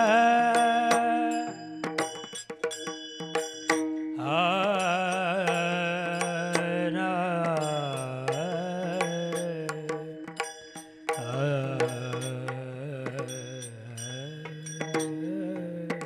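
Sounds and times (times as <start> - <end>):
man singing long note with vibrato: 0.0 - 2.0, 4.1 - 10.4, 11.1 - 16.0
rhythmic percussion strikes: 0.0 - 16.0.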